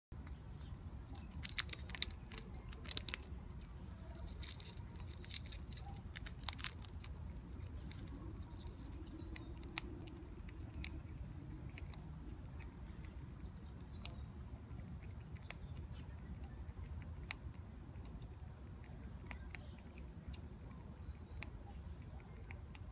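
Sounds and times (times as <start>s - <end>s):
squirrel cracking peanut shell: 0.2s - 22.9s.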